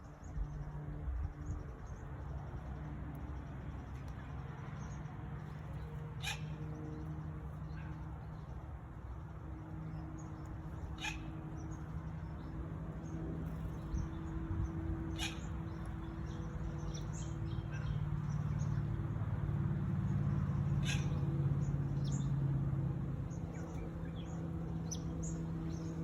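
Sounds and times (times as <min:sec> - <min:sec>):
small birds chirping: 0:02.8 - 0:22.4, 0:23.2 - 0:26.0.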